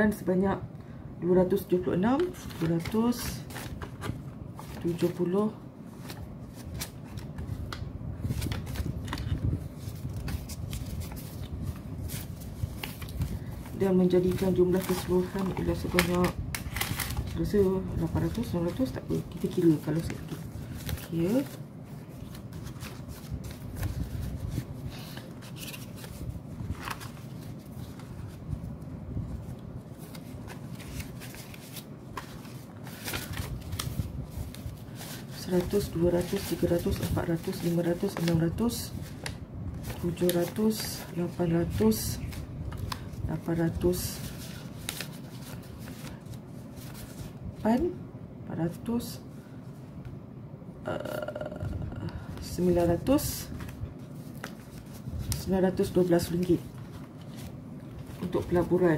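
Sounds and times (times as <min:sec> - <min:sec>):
banknotes rustling and flicking: 0:01.9 - 0:28.7, 0:29.3 - 0:47.8, 0:52.4 - 0:58.9.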